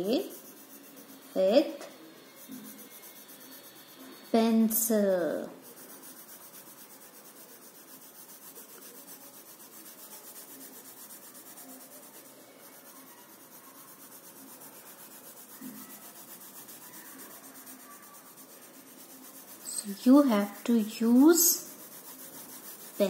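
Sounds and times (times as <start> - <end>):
pencil shading on paper: 0.0 - 23.0.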